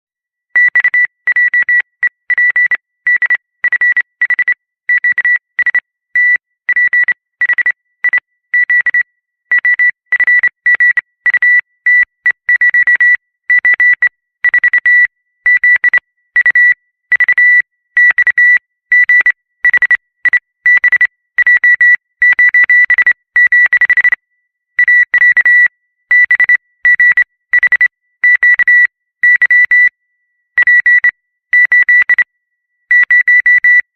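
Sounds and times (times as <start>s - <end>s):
morse code beeps: 0.6s - 24.2s, 24.8s - 29.9s, 30.6s - 32.3s, 32.9s - 33.9s.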